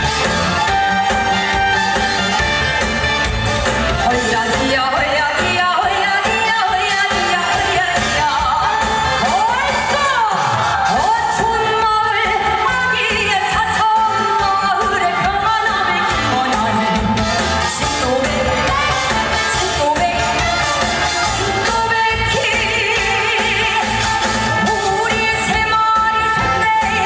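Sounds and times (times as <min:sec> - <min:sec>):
amplified music with steady beat: 0:00.0 - 0:27.0
woman singing into microphone: 0:04.0 - 0:27.0.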